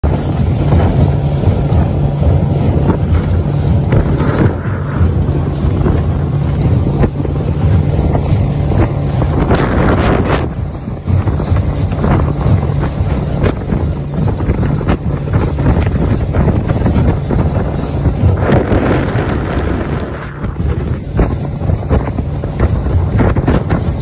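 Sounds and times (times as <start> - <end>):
hull slapping choppy water: 0.0 - 24.0
outboard motor hum: 0.0 - 24.0
wind buffeting microphone: 0.0 - 24.0.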